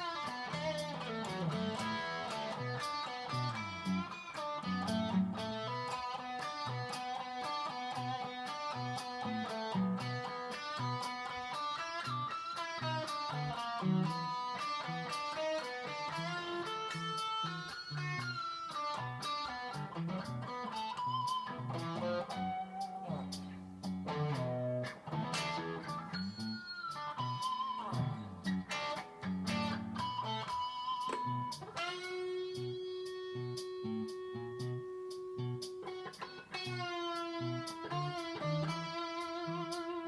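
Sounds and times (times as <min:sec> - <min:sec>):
electric guitar riffs: 0:00.0 - 0:40.0.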